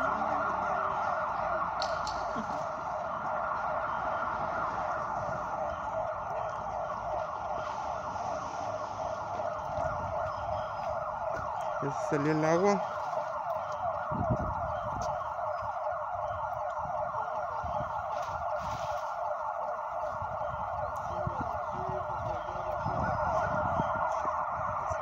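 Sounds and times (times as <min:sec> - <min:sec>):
siren wailing: 0:00.0 - 0:25.0.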